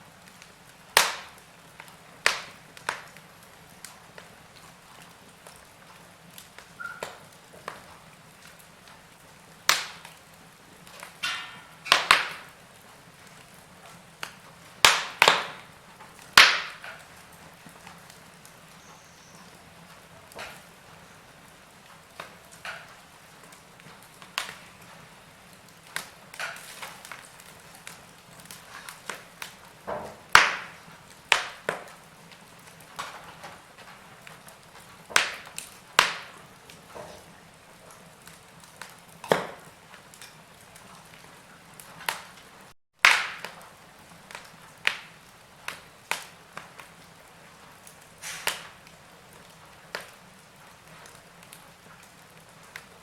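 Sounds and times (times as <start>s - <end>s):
faint steady hiss: 0.0s - 42.8s
wood fire crackling: 0.0s - 53.0s.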